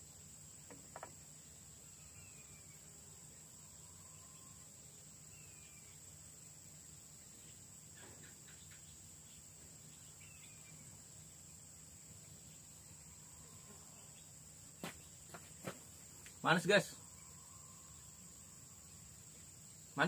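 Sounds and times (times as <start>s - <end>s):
faint bird chirps: 0.0s - 20.0s
high-pitched insect buzz: 0.0s - 20.0s.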